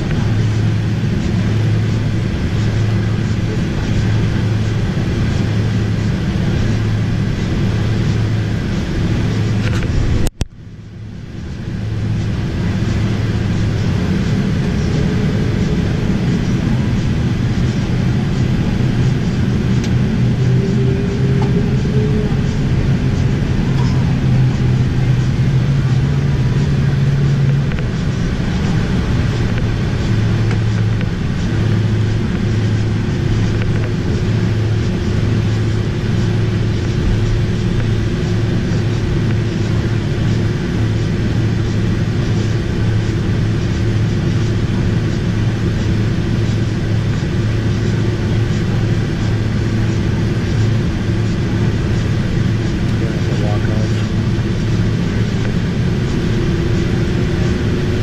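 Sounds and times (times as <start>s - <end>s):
jet engines idling drone: 0.0s - 58.0s.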